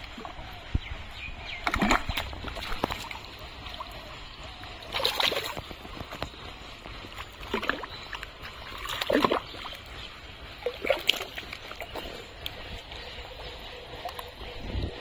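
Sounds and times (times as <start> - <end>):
sloshing through muddy water: 0.0 - 15.0
water splashes: 0.0 - 15.0.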